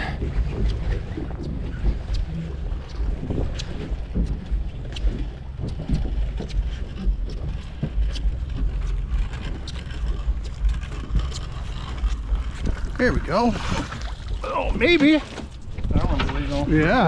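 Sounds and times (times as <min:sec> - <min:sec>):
knocks and scrapes: 0:00.0 - 0:17.0
wind rumble on microphone: 0:00.0 - 0:17.0.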